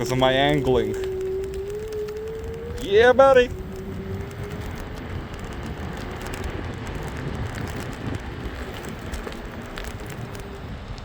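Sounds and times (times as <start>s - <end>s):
scooter wheels rumbling and rattling: 0.0s - 11.0s
wind buffeting microphone: 0.0s - 11.0s.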